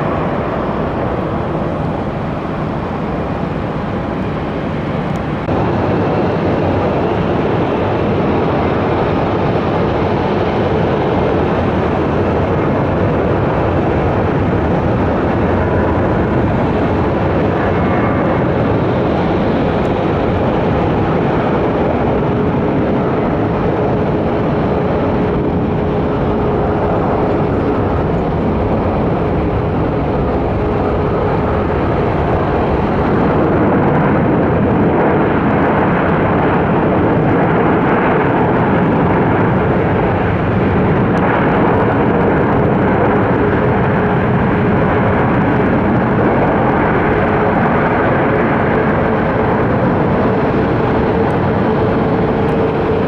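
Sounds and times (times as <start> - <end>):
jet engine rushing: 0.0 - 53.0.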